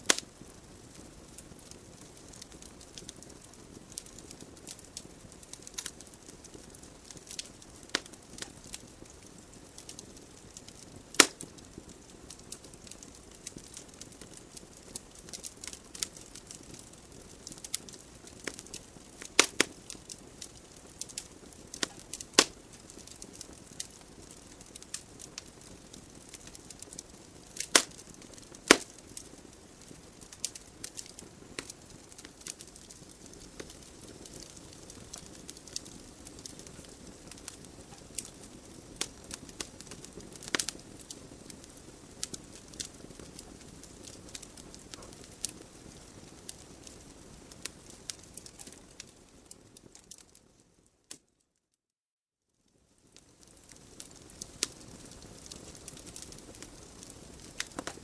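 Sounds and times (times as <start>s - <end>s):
fire hissing: 0.0s - 49.0s
loud snaps of fire: 0.0s - 50.4s, 53.2s - 58.0s
logs crackling and popping: 0.0s - 51.4s, 52.7s - 58.0s.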